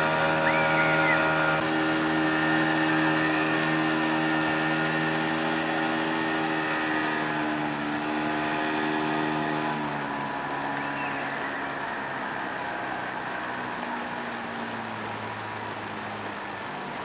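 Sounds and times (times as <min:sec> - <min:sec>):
outboard motor running: 0:00.0 - 0:17.0
water rushing: 0:00.0 - 0:17.0
wind: 0:00.0 - 0:17.0.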